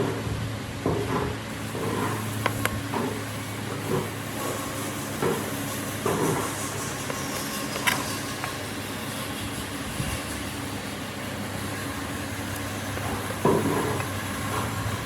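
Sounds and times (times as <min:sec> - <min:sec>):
wood lathe motor hum: 0:01.5 - 0:15.0.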